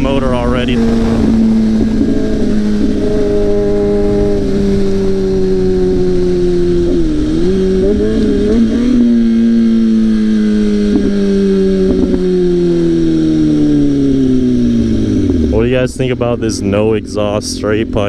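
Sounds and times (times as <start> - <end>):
low wind rumble: 0.0 - 18.0
motorcycle engine running: 0.0 - 18.0.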